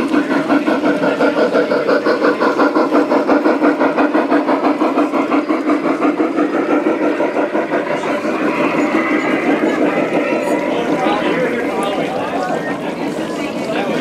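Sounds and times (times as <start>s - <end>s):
model steam locomotive chuffing: 0.0s - 14.0s.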